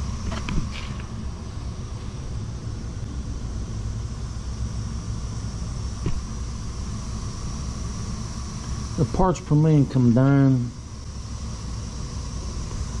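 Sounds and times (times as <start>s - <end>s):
boiler burner rumble: 0.0s - 13.0s
thin high whine: 0.0s - 13.0s.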